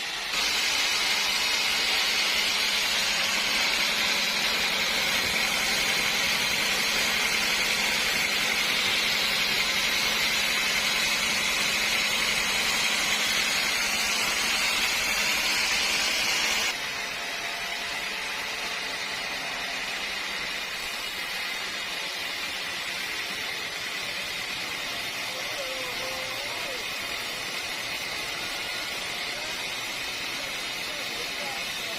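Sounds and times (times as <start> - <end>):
sawmill machinery hissing: 0.0 - 31.9.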